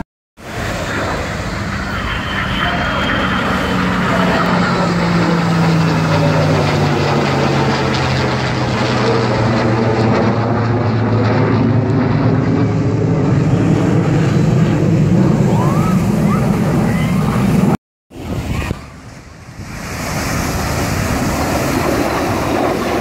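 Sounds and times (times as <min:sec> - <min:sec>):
aircraft engines droning: 0:00.4 - 0:23.0.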